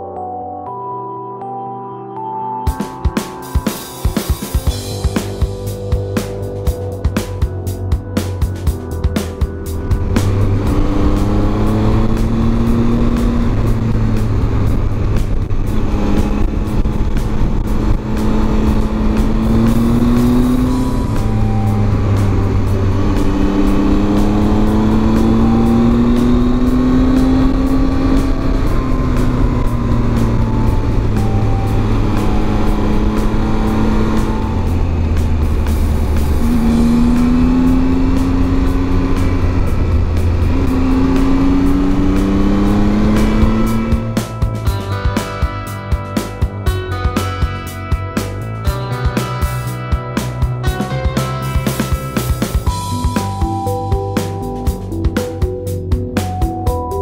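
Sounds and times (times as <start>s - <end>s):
motorcycle engine running: 4.1s - 57.0s.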